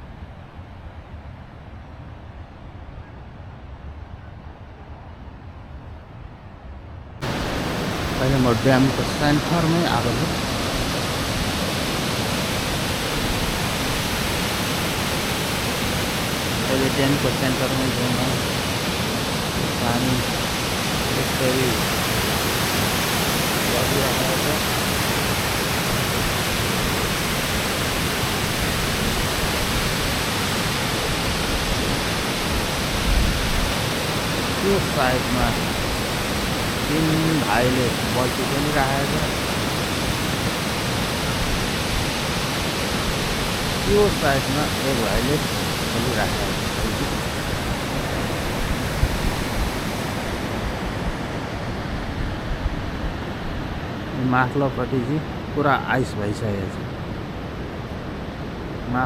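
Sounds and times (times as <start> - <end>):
water rushing: 7.2 - 59.0.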